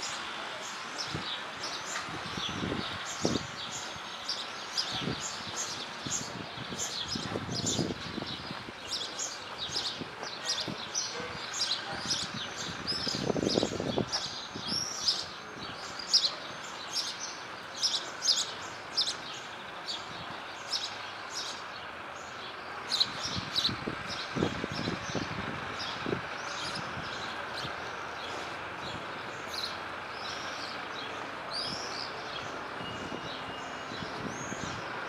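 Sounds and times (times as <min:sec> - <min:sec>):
songbirds chirping: 0:00.0 - 0:35.0
town background hum: 0:00.0 - 0:35.0.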